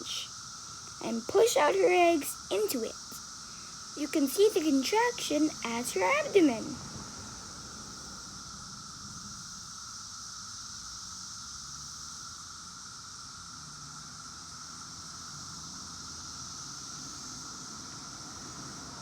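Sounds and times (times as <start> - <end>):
cicadas humming: 0.0 - 19.0.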